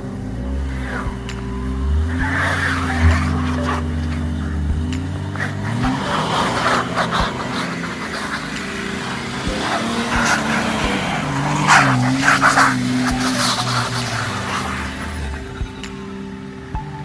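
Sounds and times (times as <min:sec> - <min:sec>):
car engine revving: 0:00.0 - 0:17.0
tyres throwing up snow: 0:02.0 - 0:15.9.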